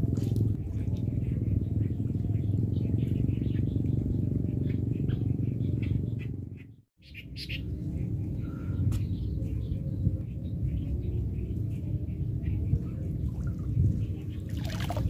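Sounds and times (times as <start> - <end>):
low rumble: 0.0 - 15.0
small birds chirping: 0.1 - 15.0.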